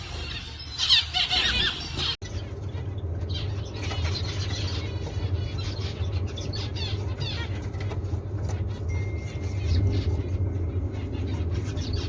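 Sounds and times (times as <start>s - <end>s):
cage birds chirping: 0.0s - 12.0s
steady low hum: 1.3s - 12.0s.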